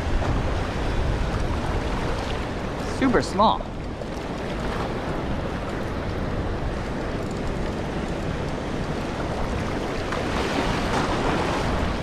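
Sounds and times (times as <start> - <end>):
surf washing: 0.0 - 12.0
wind rumbling on microphone: 0.0 - 12.0.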